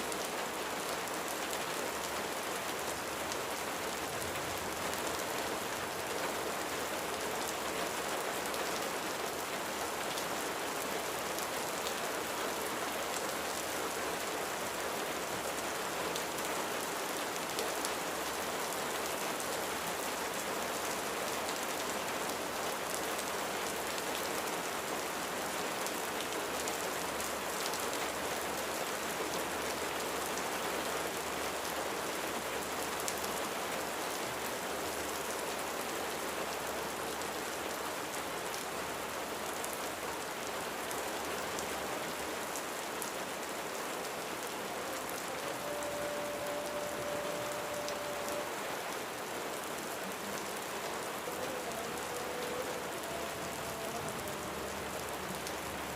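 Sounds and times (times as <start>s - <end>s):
rain patter: 0.0s - 55.9s.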